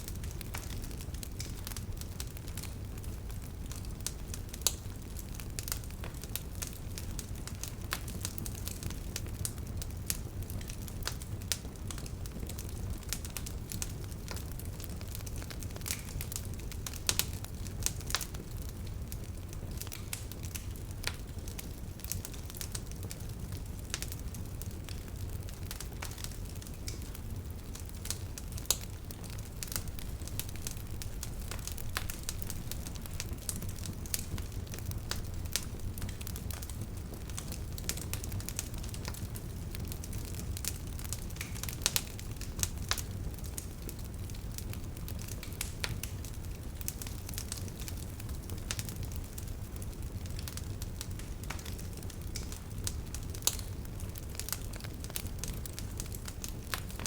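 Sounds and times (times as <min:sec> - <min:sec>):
bonfire crackling: 0:00.0 - 0:57.0
low rumble of flames: 0:00.0 - 0:57.0
burning wood popping and snapping: 0:00.1 - 0:57.0.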